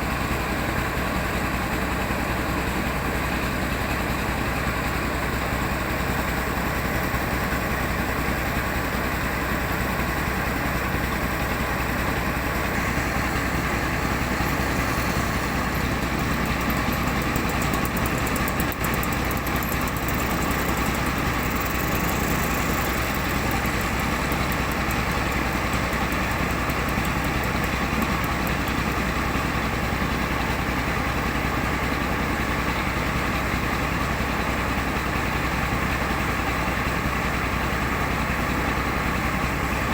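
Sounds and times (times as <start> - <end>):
old car engine running: 0.0 - 39.9
rice milling machine: 0.0 - 39.9.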